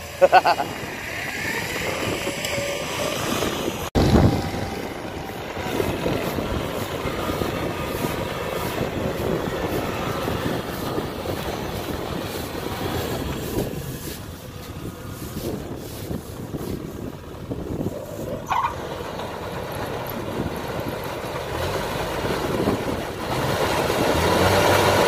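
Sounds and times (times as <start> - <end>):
combine harvester engine droning: 0.0 - 25.0.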